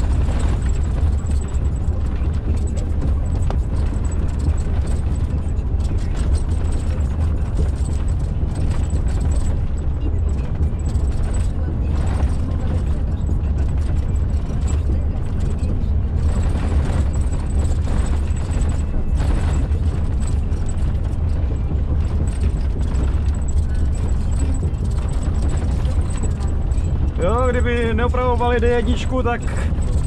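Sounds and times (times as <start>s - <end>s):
truck engine and tyres rumbling: 0.0s - 30.0s.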